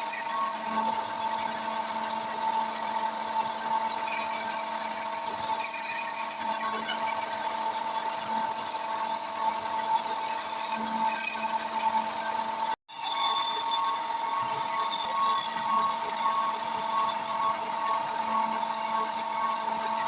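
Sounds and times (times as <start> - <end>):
tool scraping spinning wood: 0.0 - 20.0
wood lathe whine: 0.0 - 20.0.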